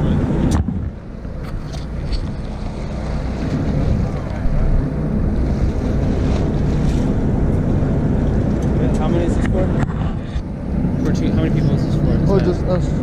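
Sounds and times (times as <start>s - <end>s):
boat engine rumble: 0.0s - 13.0s
water washing along hull: 0.0s - 13.0s
wind buffeting microphone: 0.0s - 13.0s.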